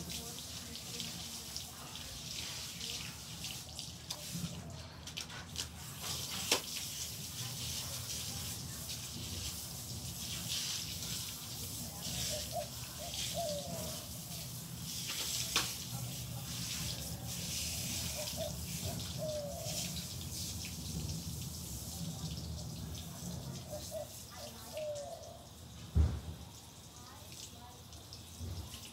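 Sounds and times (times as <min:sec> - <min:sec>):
hose water spraying and splashing: 0:00.0 - 0:28.9.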